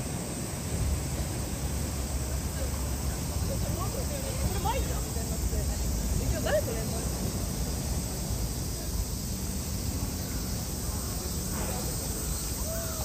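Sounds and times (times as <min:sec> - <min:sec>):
traffic rumble: 0:00.0 - 0:13.0
faint voices of passers-by: 0:00.3 - 0:13.0
crowd murmur: 0:00.9 - 0:13.0.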